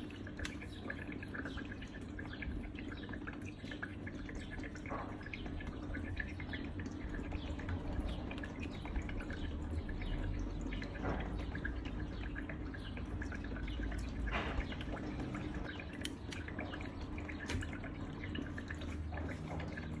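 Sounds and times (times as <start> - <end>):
tabletop water fountain trickling: 0.0 - 20.0.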